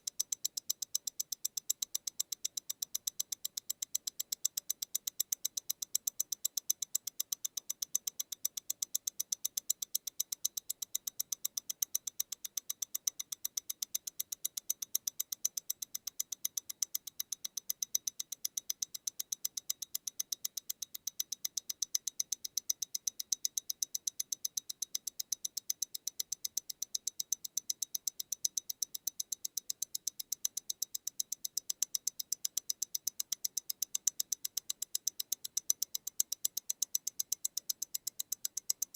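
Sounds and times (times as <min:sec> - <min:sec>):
mechanical watch ticking: 0:00.0 - 0:38.9.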